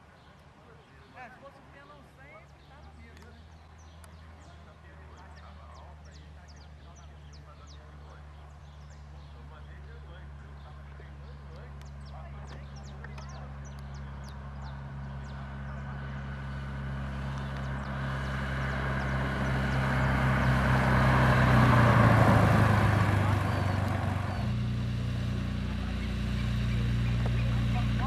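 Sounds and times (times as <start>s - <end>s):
propeller plane engine drone: 0.0s - 28.0s.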